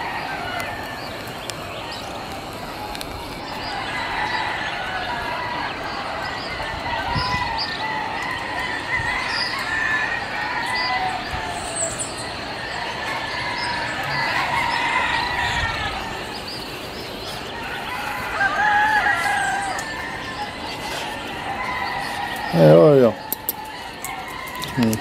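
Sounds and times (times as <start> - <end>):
roosters crowing: 0.0 - 25.0.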